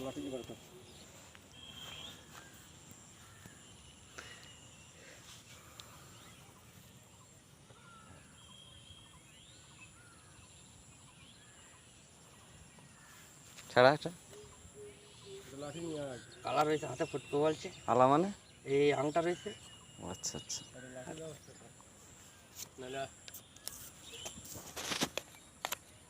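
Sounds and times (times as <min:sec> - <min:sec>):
small bird chirps: 0:00.0 - 0:26.0.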